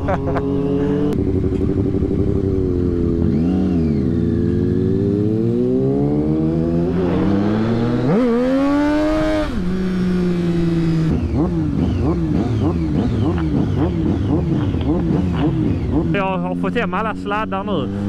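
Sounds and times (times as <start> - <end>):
motorcycle engine accelerating: 0.0 - 18.0
passing vehicle engine: 0.0 - 18.0.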